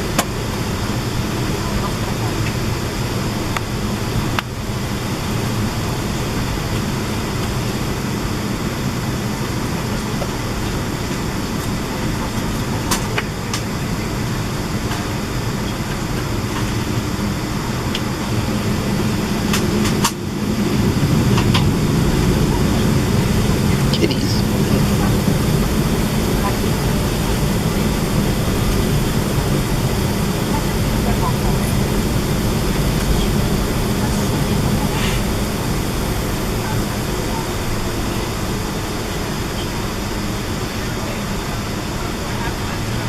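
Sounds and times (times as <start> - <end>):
jet engines at low power: 0.0 - 43.0.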